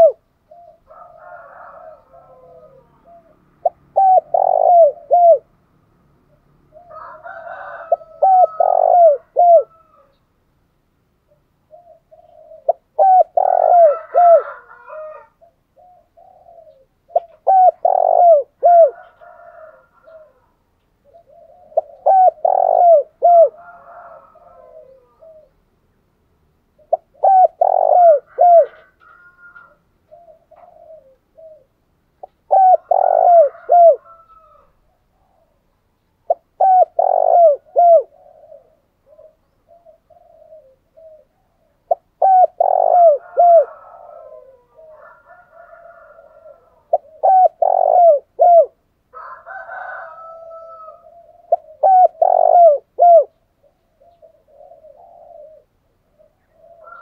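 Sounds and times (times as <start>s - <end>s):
dove cooing: 0.0s - 5.5s, 6.3s - 10.2s, 11.3s - 25.7s, 26.7s - 57.0s.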